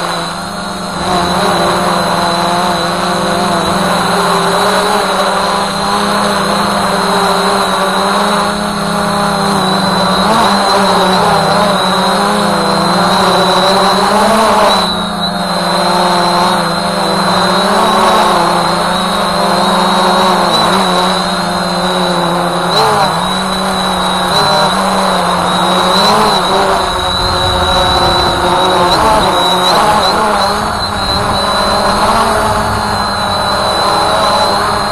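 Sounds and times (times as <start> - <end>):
drone propellers buzzing: 0.0 - 34.9
high motor whine: 0.0 - 34.9.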